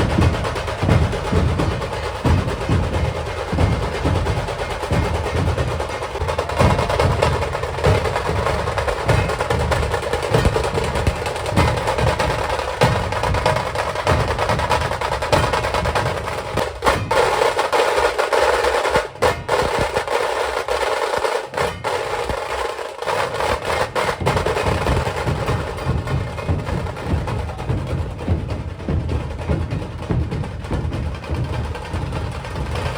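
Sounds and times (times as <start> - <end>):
deep drum beats: 0.0 - 32.9
fast drum rolls: 0.0 - 32.9.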